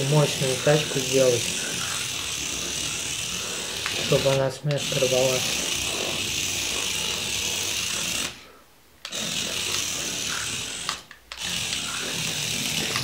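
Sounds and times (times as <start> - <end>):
toy car motor buzzing whine: 0.0 - 13.0.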